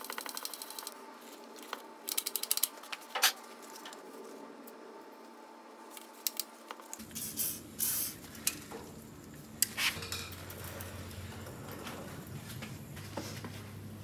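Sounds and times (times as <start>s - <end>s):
low steady hum: 0.6s - 14.0s.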